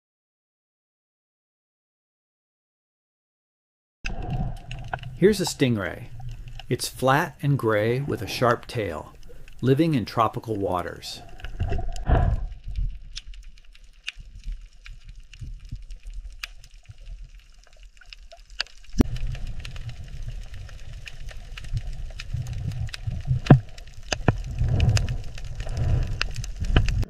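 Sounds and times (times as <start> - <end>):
faint underwater clicks: 4.1 - 27.0
underwater rumble of moving water: 4.1 - 27.0.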